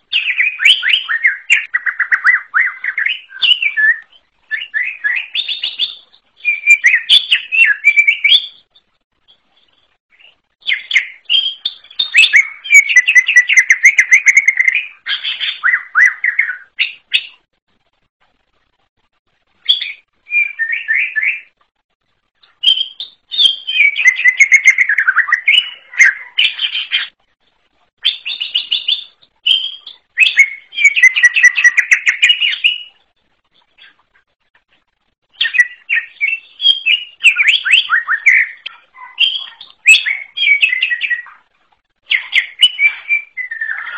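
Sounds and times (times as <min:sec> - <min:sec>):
bird singing: 0:00.0 - 0:17.5, 0:19.6 - 0:21.6, 0:22.4 - 0:27.2, 0:28.0 - 0:34.0, 0:35.3 - 0:41.4, 0:42.1 - 0:43.9.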